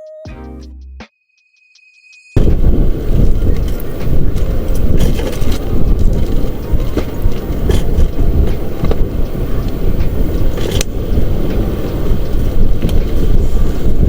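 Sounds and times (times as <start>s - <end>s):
wind buffeting microphone: 2.4s - 14.0s.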